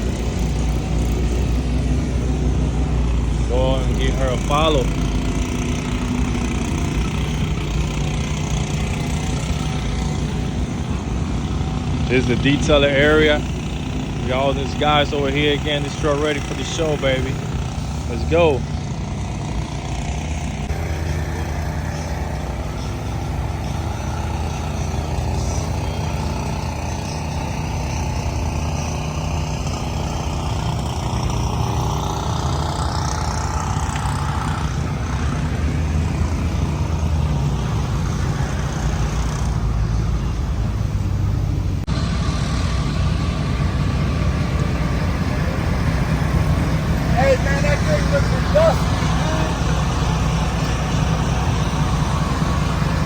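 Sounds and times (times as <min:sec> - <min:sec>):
truck engines running: 0:00.0 - 0:53.0.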